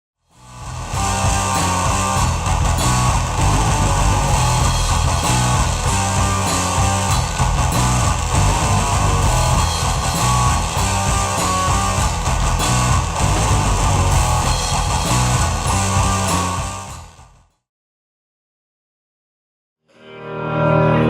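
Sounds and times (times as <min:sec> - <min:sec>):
bass guitar: 0:00.2 - 0:17.6
rock band playing: 0:00.4 - 0:17.2
electric guitar: 0:00.4 - 0:17.3.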